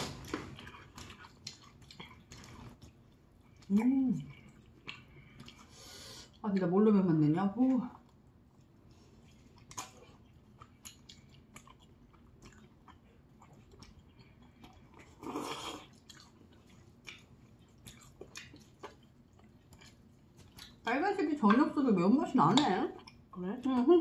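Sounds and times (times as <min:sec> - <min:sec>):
soft chewing with mouth clicks: 0:00.0 - 0:24.0.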